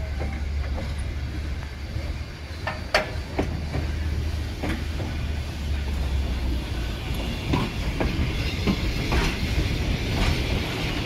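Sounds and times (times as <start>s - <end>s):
railroad cars rumbling: 0.0s - 11.0s.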